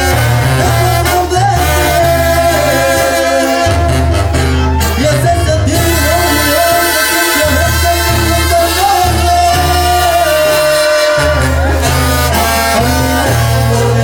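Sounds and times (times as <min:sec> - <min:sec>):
band playing latin music: 0:00.0 - 0:14.0
held melody line: 0:00.0 - 0:14.0.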